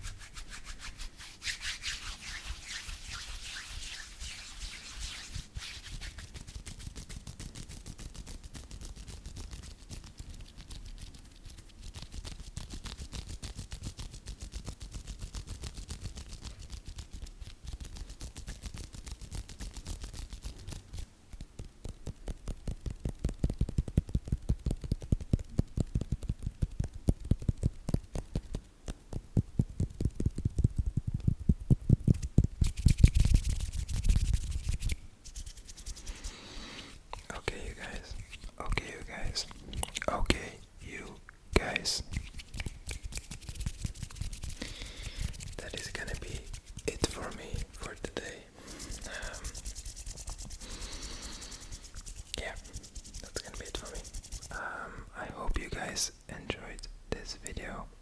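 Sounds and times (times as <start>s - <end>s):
hands rubbing lotion: 0.0s - 55.0s.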